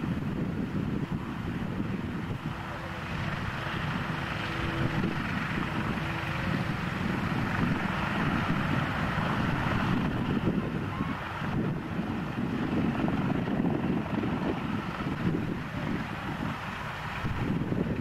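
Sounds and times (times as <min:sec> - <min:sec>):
propeller engines droning: 0:00.0 - 0:18.0
wind buffeting microphone: 0:00.0 - 0:18.0.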